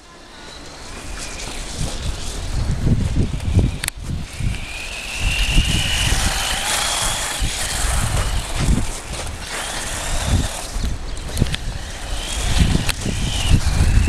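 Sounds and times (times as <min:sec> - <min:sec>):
tyres hissing on icy snow: 0:00.0 - 0:03.2, 0:03.8 - 0:14.0
electric toy car motor whining: 0:00.0 - 0:14.0
wind rumbling on microphone: 0:00.0 - 0:14.0.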